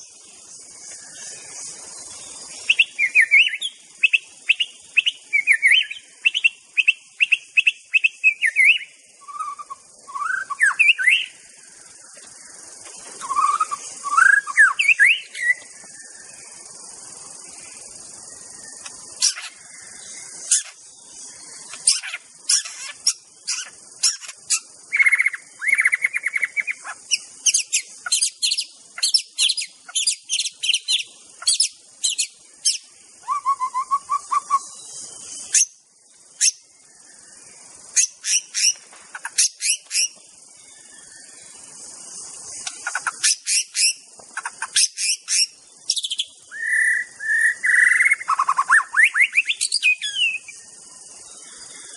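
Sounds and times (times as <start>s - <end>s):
steady high hiss: 0.0s - 51.9s
bird singing chirps and whistles: 0.8s - 11.5s, 12.8s - 35.8s, 36.4s - 51.9s.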